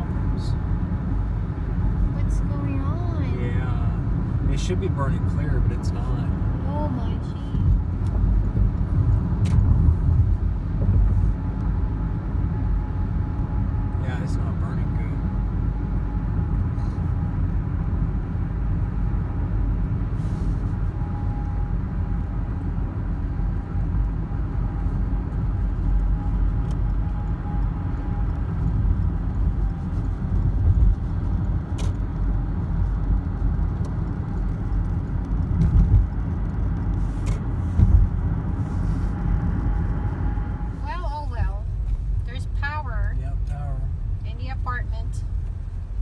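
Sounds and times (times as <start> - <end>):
car tyres and engine rumble: 0.0 - 46.0.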